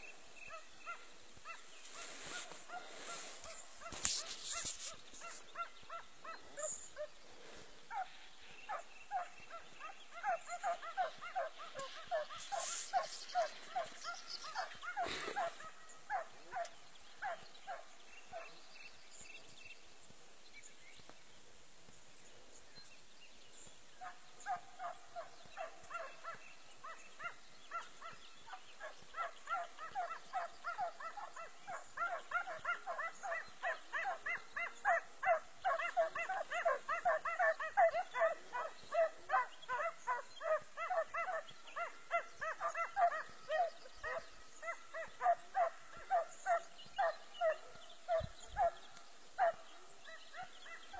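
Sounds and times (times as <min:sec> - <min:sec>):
hounds yelping: 0:00.4 - 0:07.2, 0:07.9 - 0:18.6, 0:24.0 - 0:50.9.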